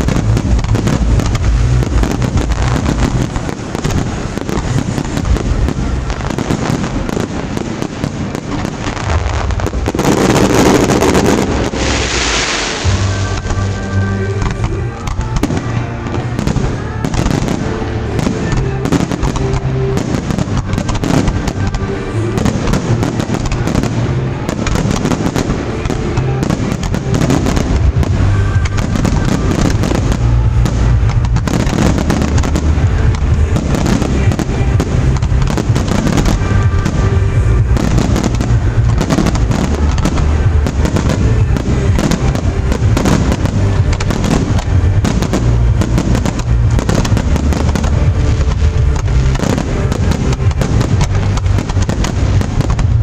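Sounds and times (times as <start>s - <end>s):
fireworks bursts and pops: 0.0s - 53.0s
music with low bass line: 0.0s - 53.0s.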